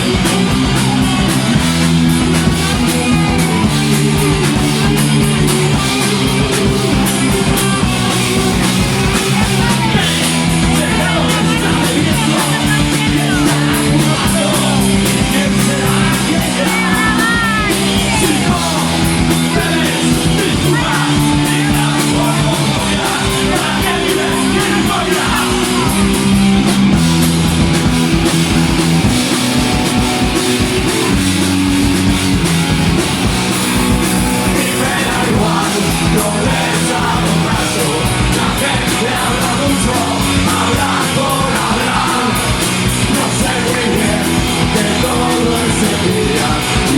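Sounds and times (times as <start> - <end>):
punk rock band playing live: 0.0 - 46.9
shouted vocals: 0.0 - 46.9.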